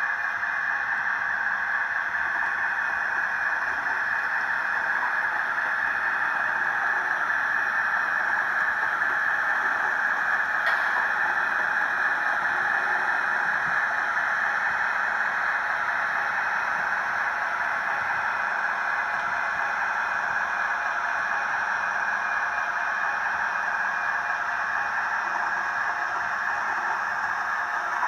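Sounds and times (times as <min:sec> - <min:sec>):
model train whirring on rails: 0:00.0 - 0:28.0.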